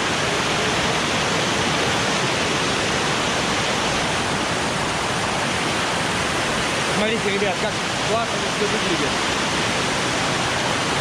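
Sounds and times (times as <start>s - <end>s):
waterfall splashing over rocks: 0.0s - 11.0s.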